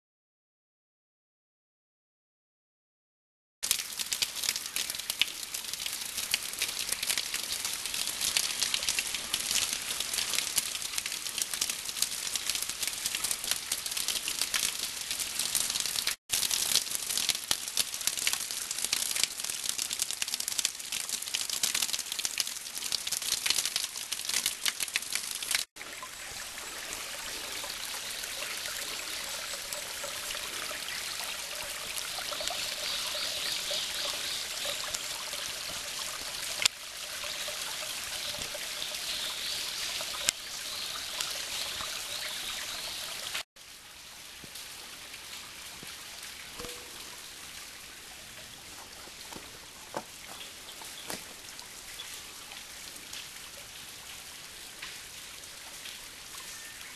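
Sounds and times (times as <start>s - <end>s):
small waterfall splashing: 3.6s - 56.9s.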